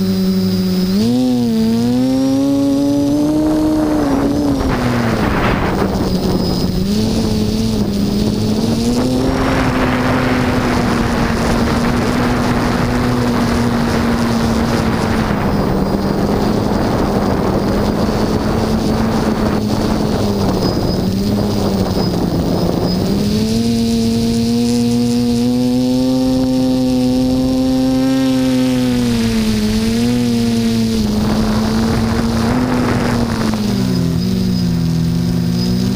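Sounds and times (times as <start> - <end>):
quadcopter propellers humming: 0.0 - 35.9
wind rush on microphone: 0.0 - 35.9.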